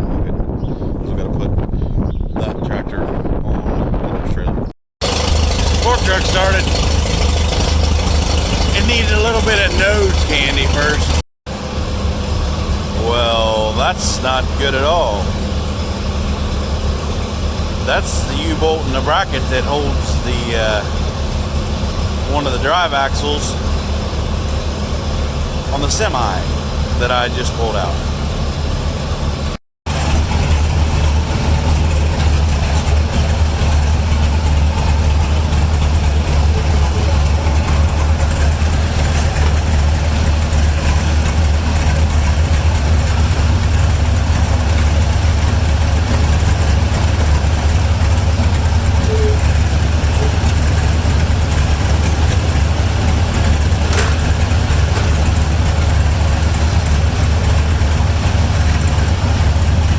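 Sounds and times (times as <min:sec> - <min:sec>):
large vehicle engine humming: 0:03.3 - 0:59.9.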